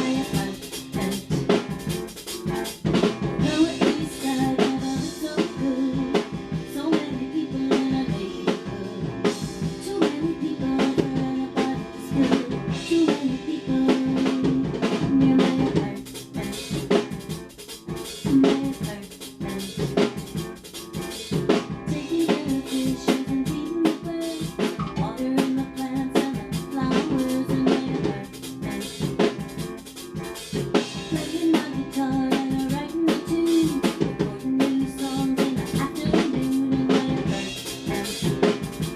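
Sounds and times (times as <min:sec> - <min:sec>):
drum kit rock beat: 0:00.0 - 0:38.9.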